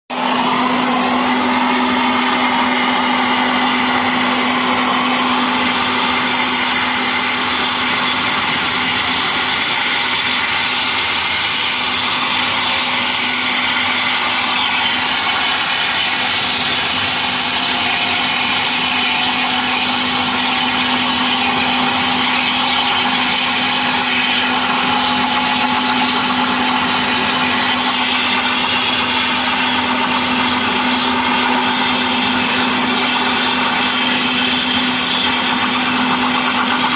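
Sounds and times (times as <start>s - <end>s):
helicopter engine whine: 0.1s - 36.9s.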